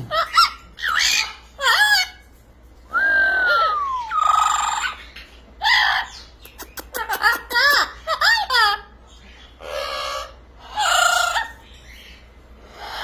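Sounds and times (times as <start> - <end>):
parrot squawk: 0.0 - 2.3, 3.2 - 12.0, 12.6 - 13.0
parrot calls and whistle: 0.0 - 13.0.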